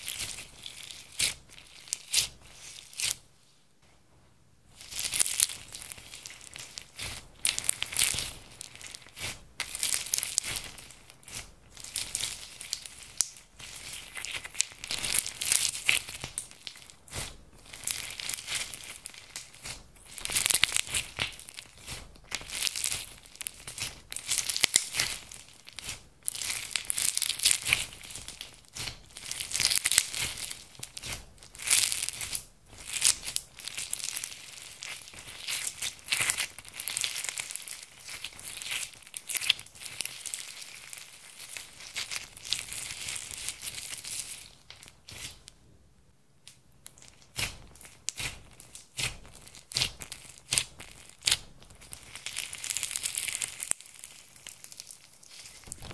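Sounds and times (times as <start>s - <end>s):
slime crackling and popping: 0.0s - 3.2s, 4.8s - 45.6s, 46.4s - 55.9s.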